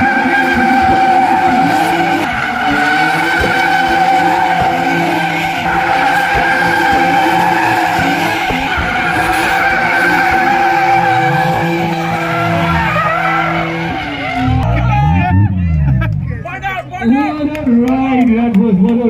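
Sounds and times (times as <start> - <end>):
car engine at high revs: 0.0 - 16.3.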